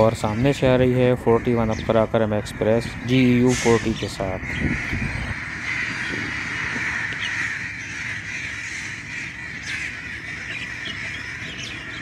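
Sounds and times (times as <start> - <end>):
chorus of calling birds: 0.0 - 12.0
crows cawing: 0.0 - 12.0.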